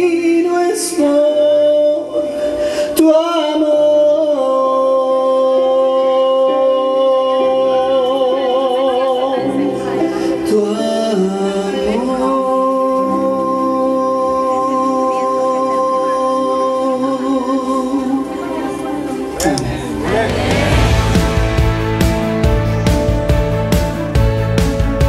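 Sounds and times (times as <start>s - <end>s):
man singing into a microphone: 0.0s - 21.6s
slow instrumental accompaniment: 0.0s - 25.0s.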